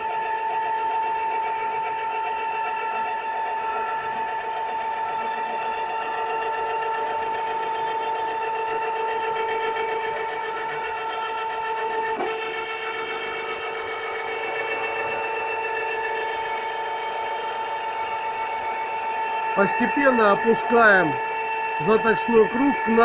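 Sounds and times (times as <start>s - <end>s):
grinding machine humming and whining: 0.0s - 23.0s.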